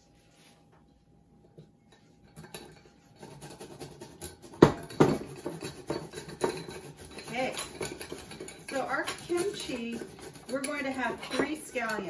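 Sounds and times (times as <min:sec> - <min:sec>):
utensils and dishes clinking: 0:01.9 - 0:12.0.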